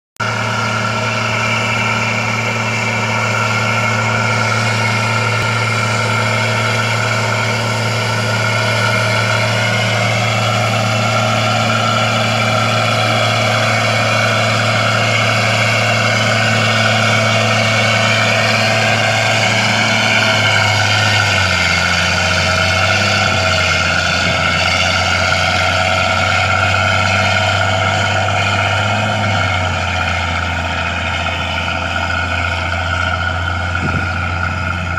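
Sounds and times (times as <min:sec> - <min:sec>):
bulldozer diesel engine running: 0:00.2 - 0:34.9.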